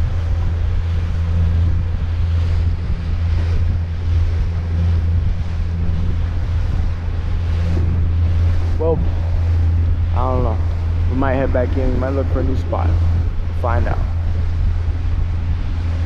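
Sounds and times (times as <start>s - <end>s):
motorboat engine drone: 0.0s - 16.0s
water rushing along hull: 0.0s - 16.0s
wind buffeting microphone: 0.0s - 16.0s.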